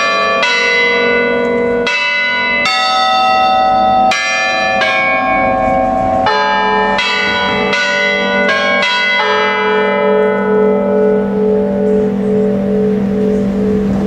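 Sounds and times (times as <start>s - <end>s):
church bells playing a melody: 0.0s - 14.0s.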